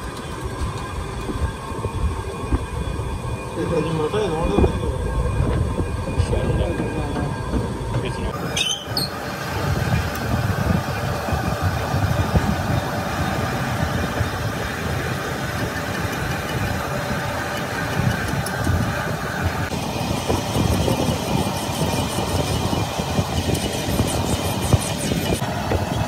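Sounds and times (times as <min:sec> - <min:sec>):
metal lathe droning: 0:00.0 - 0:26.0.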